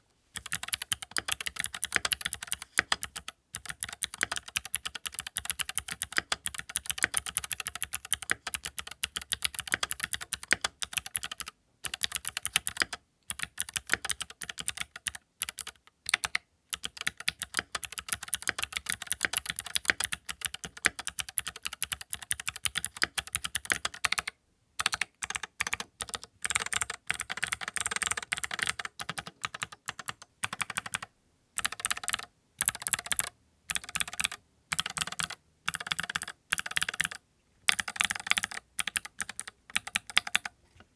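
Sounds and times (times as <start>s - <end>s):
mechanical keyboard typing: 0.4s - 40.6s.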